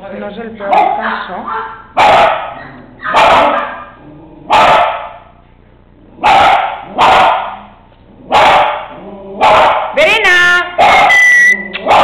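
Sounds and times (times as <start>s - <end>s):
dog barking: 0.7s - 5.3s, 6.2s - 10.0s, 10.8s - 12.0s.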